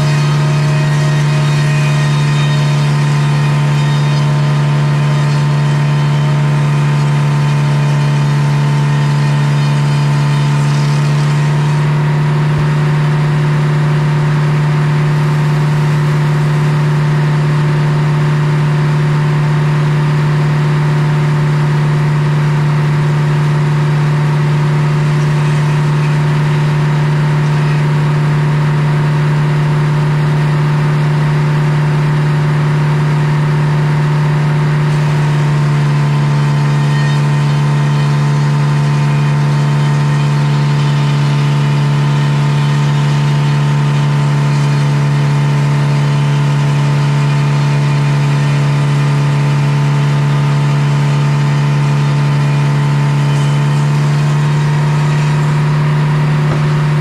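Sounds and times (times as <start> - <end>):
circular saw cutting log: 0.0 - 57.0.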